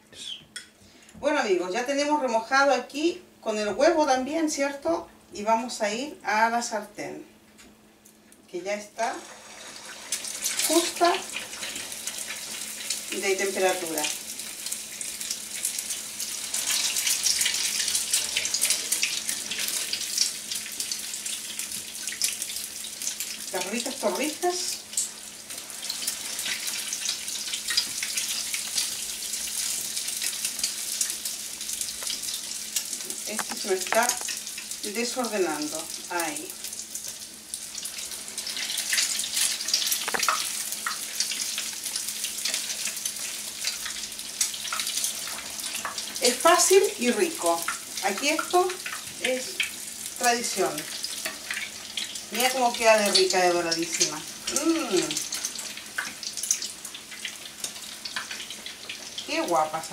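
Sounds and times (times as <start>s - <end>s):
bread sizzling in hot oil: 8.9s - 59.9s.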